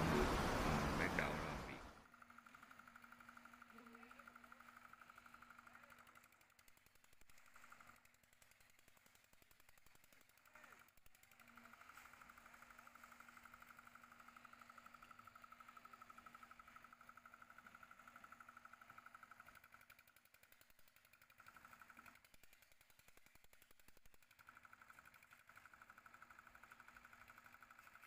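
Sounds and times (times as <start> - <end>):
concrete mixer engine pulsing: 0.0 - 28.0.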